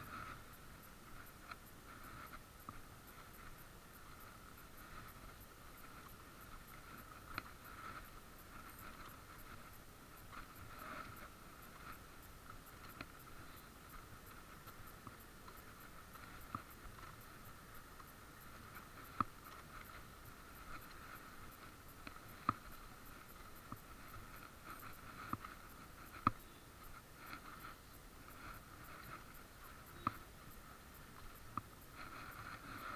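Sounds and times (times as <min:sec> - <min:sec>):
electric scooter whine: 0:00.0 - 0:32.9.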